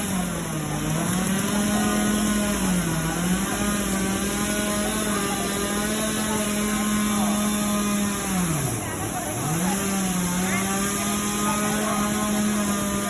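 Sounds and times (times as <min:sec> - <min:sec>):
small engine running fast: 0:00.0 - 0:13.0.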